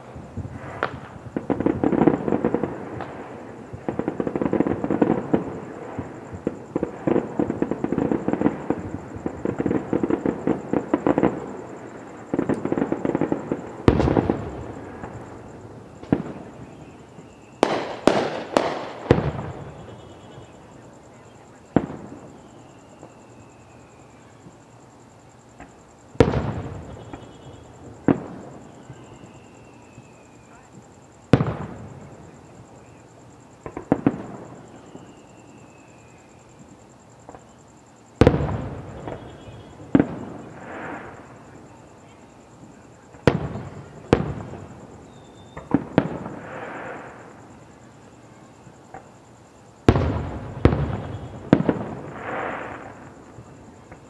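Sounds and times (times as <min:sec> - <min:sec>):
fireworks bangs with echo: 0:00.0 - 0:24.6, 0:25.6 - 0:36.1, 0:37.2 - 0:47.6, 0:49.8 - 0:54.0
fireworks crackling: 0:00.0 - 0:54.0.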